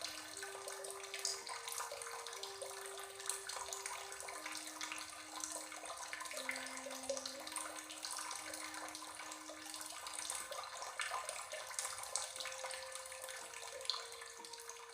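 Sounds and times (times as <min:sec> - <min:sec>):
running water splashing: 0:00.0 - 0:14.9.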